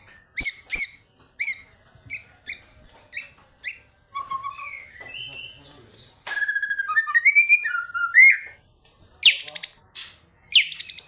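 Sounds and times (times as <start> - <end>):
songbird whistled notes: 0.0 - 8.6, 10.5 - 11.0.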